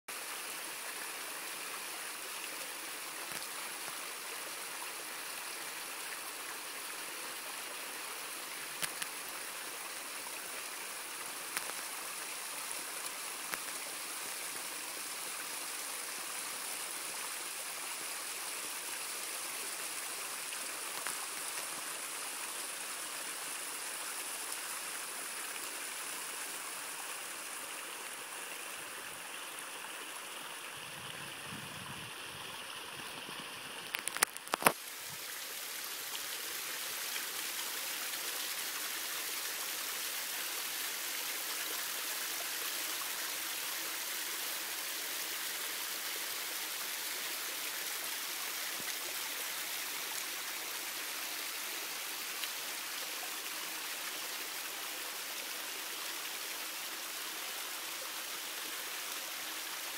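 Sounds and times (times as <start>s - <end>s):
small waterfall splashing: 0.1s - 59.9s.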